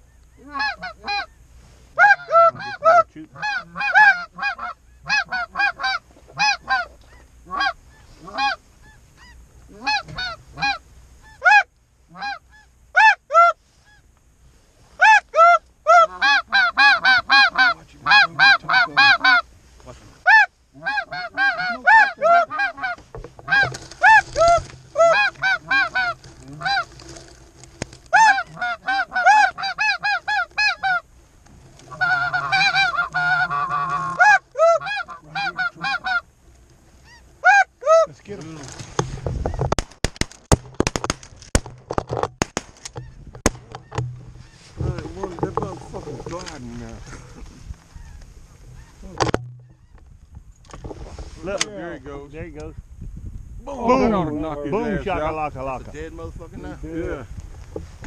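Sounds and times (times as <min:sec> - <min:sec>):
geese honking: 0:00.0 - 0:14.1, 0:14.9 - 0:39.8, 0:41.9 - 0:50.1.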